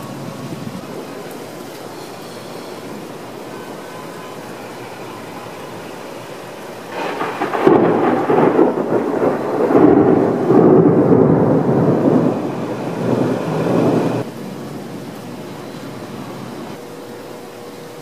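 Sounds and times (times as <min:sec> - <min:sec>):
thunder rumbling: 0:00.0 - 0:16.8
rain hissing: 0:00.0 - 0:18.0.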